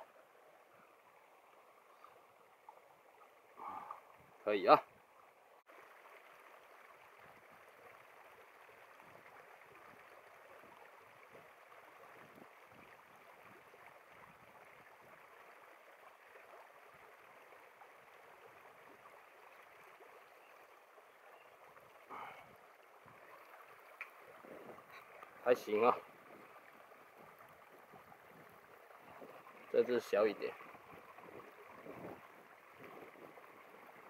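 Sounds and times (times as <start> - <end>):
stream running water: 0.0 - 34.0.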